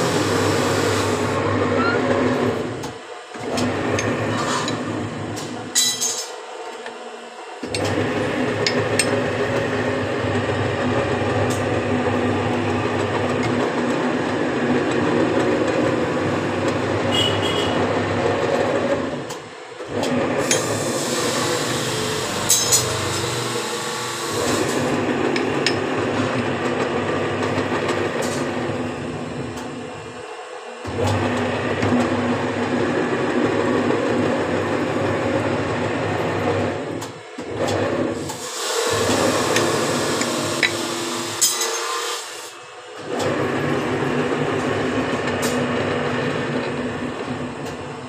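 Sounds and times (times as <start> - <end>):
machine running: 0.0 - 48.0.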